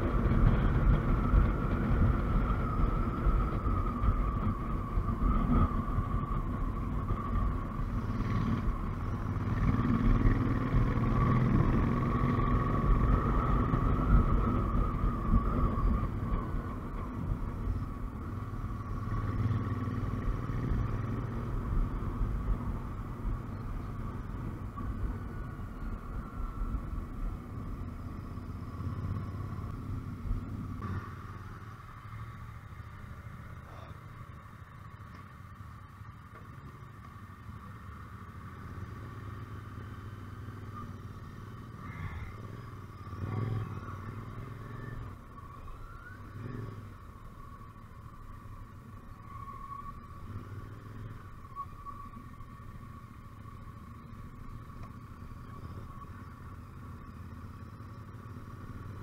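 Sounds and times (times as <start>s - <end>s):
motorcycle engine: 0.0s - 59.0s
road noise: 0.0s - 59.0s.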